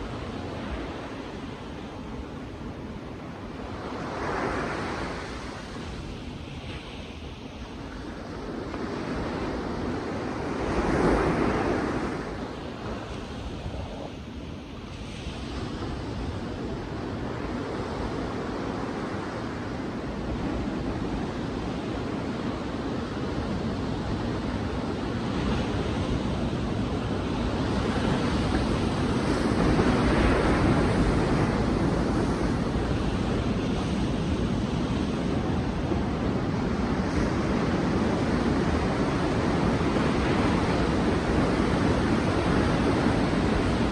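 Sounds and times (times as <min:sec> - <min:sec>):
sea waves breaking on beach: 0:00.0 - 0:43.9.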